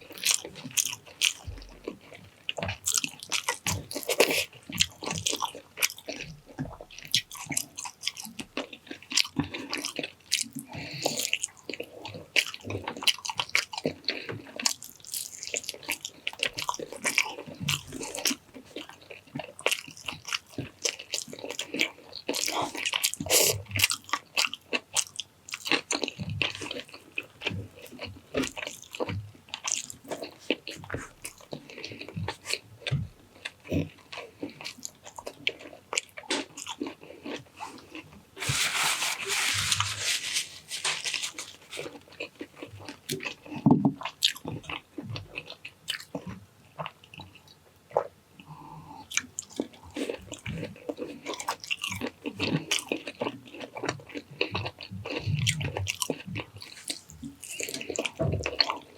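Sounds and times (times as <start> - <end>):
chewing and biting: 0.0 - 58.9.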